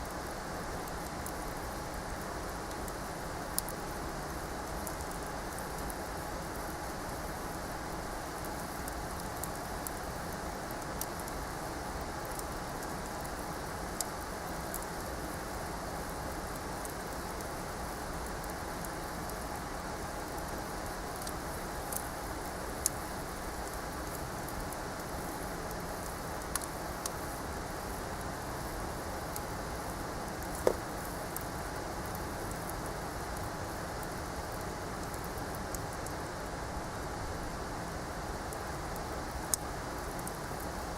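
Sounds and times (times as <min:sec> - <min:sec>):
campfire hissing: 0:00.0 - 0:40.9
fire crackles and pops: 0:00.1 - 0:40.9.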